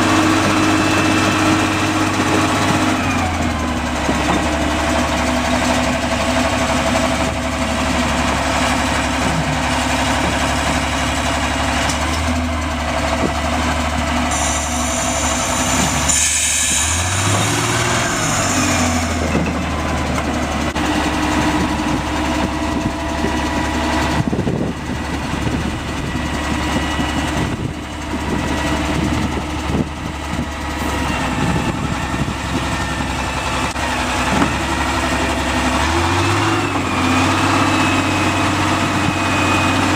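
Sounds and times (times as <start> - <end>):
locomotive engine running: 0.0 - 39.9.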